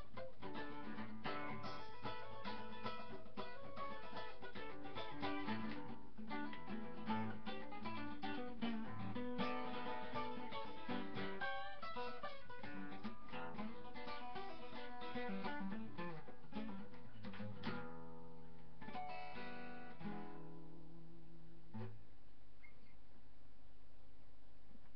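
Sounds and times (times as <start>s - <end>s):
rockabilly blues guitar: 0.0s - 22.0s.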